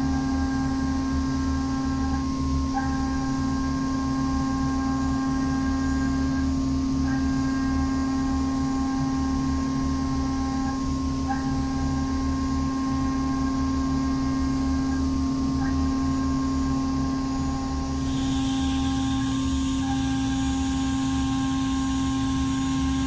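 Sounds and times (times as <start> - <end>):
milling machine humming: 0.0 - 23.0.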